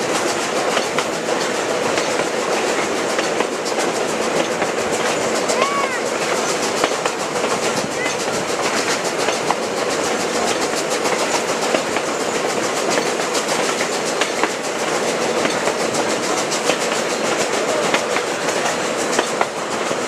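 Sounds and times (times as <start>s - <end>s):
rush of wind: 0.0s - 20.0s
train rumble: 0.0s - 20.0s
train wheels clicking over rails: 0.0s - 20.0s.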